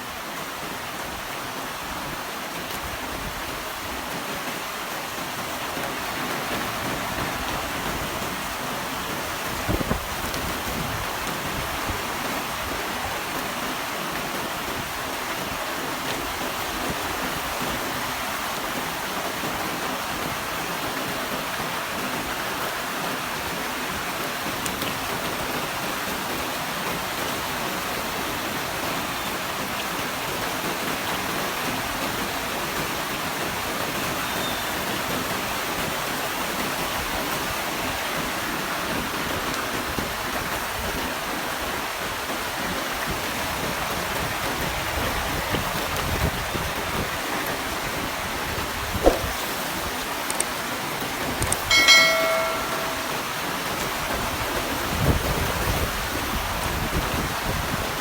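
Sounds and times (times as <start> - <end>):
rain falling steadily: 0.0 - 58.0.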